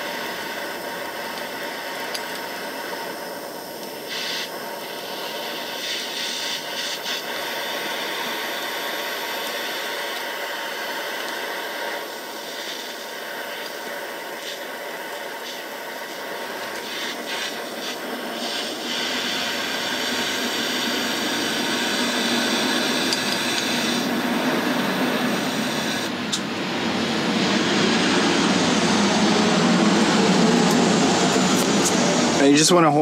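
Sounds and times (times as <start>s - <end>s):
electric fan blowing air: 0.0s - 33.0s.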